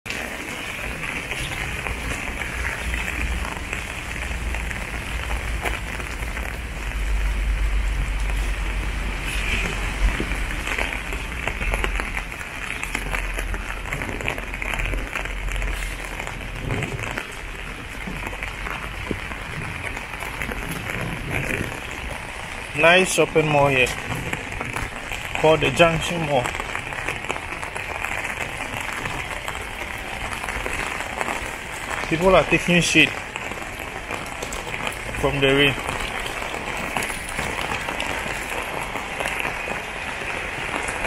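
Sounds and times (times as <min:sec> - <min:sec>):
rain pattering on paving: 0:00.0 - 0:41.0.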